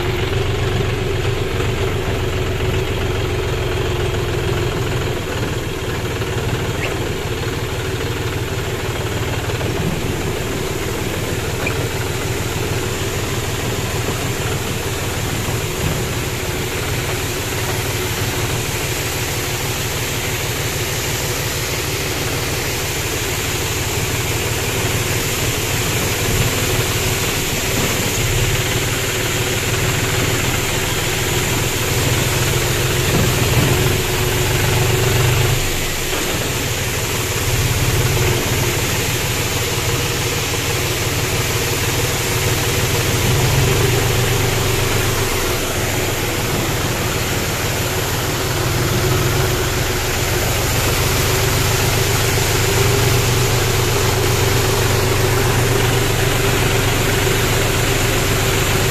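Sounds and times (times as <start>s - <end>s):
tractor diesel engine running: 0.0s - 58.9s
water pouring down a weir: 0.0s - 58.9s.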